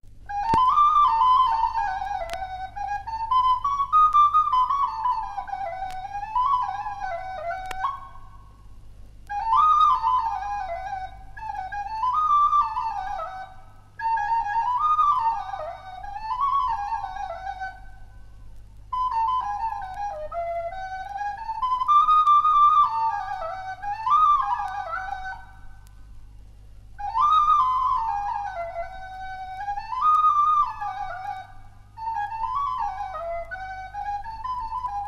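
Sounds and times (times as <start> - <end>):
steady low hum: 0.1 - 35.0
solo flute melody: 0.2 - 8.6, 9.2 - 26.2, 26.9 - 35.0.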